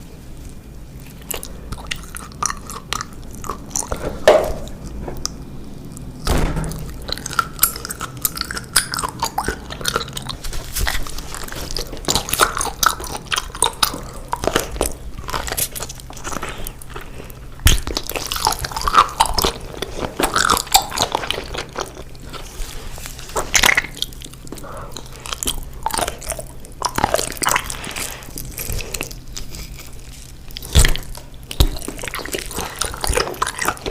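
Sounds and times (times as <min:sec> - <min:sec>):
person biting and chewing food: 0:00.6 - 0:33.9.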